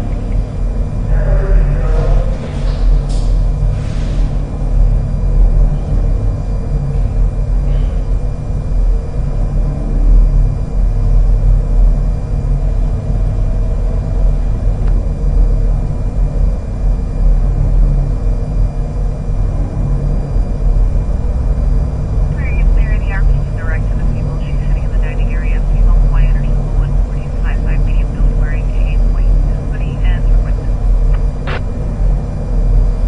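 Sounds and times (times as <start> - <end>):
faint constant hum: 0.0 - 33.0
low background rumble: 0.0 - 33.0.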